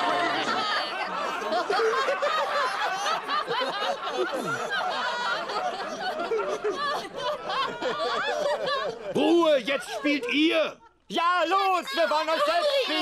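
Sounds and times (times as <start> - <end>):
crowd laughing: 0.0 - 13.0.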